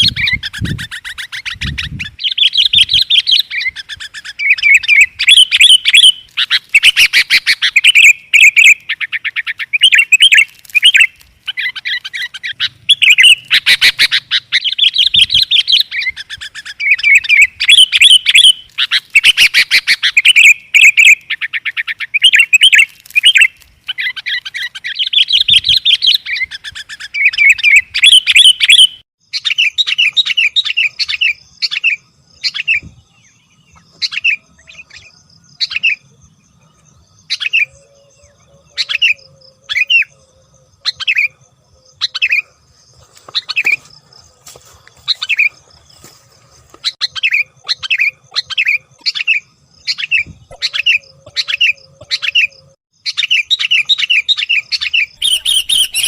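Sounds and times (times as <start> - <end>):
bulbul chattering and chirping: 0.0 - 36.1, 46.8 - 56.0.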